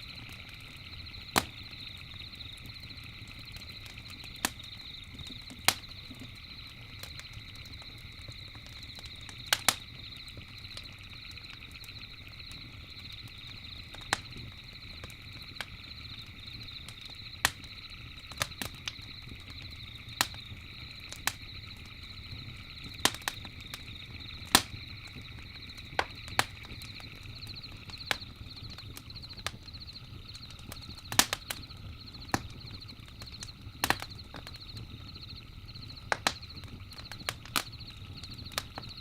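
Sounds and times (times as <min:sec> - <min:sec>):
campfire pops and snaps: 0:00.0 - 0:39.0
low rumble of burning fire: 0:00.0 - 0:39.0
night insects chirring: 0:00.0 - 0:39.0.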